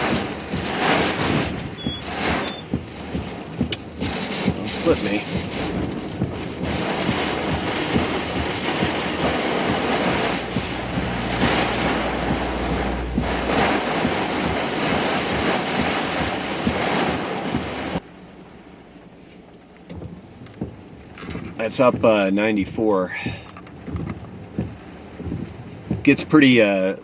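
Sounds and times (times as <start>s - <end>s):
strong wind buffeting vehicle: 0.0s - 18.9s, 19.6s - 27.0s.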